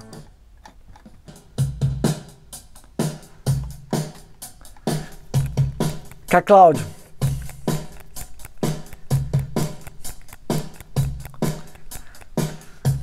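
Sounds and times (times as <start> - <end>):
drum kit groove: 0.0 - 0.3, 1.0 - 13.0.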